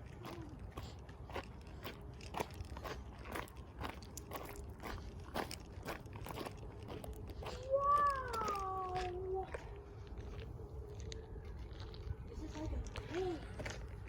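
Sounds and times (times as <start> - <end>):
footsteps crunching on trail: 0.0 - 14.0.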